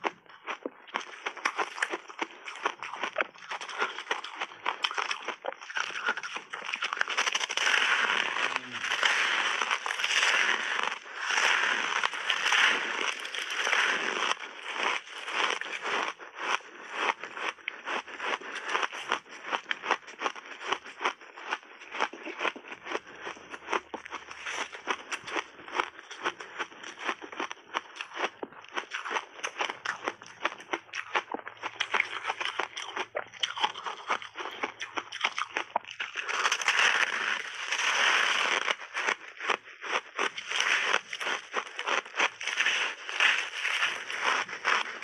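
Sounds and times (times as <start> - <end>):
ice crunching being chewed: 0.0 - 45.0.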